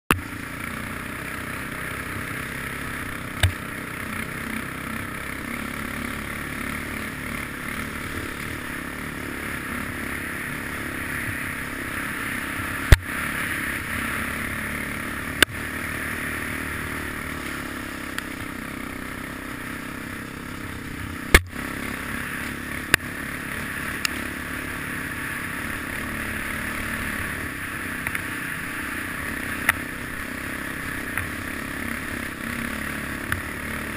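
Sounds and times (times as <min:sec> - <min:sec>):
rushing riding noise: 0:00.2 - 0:33.9.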